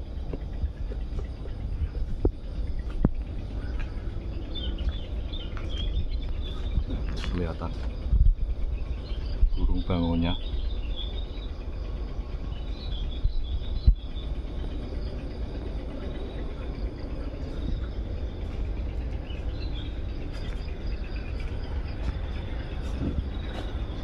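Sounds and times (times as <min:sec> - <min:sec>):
insects chirping: 0:00.0 - 0:24.0
low microphone rumble: 0:00.0 - 0:24.0.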